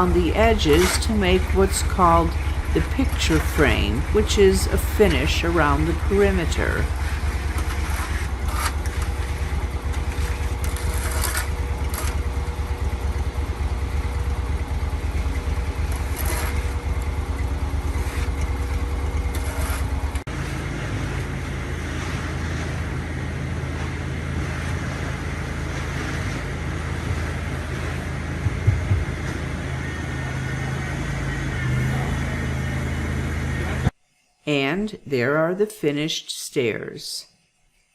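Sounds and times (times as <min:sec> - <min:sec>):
engine running: 0:00.0 - 0:34.0
higher engine hum: 0:00.0 - 0:34.0.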